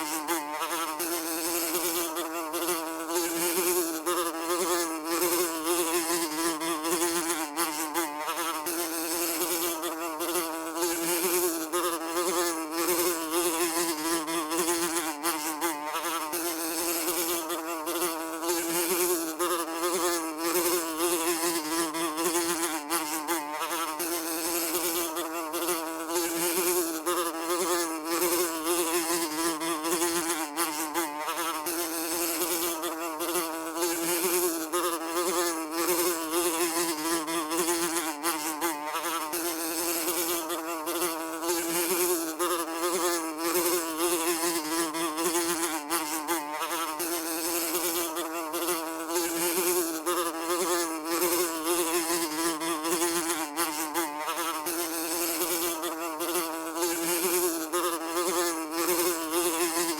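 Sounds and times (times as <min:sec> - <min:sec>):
housefly buzzing: 0:00.0 - 0:59.9.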